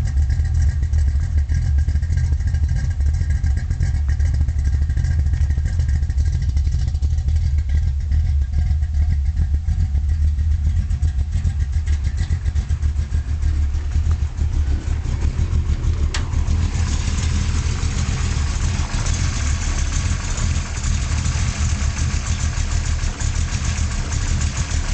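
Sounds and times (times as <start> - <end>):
car engine idling roughly: 0.0 - 24.9.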